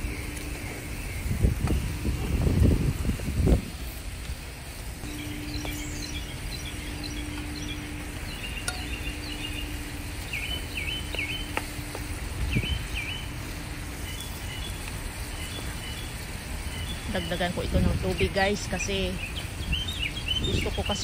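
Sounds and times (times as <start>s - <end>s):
small birds chirping: 0.0s - 21.0s
wind rumble on microphone: 0.0s - 21.0s.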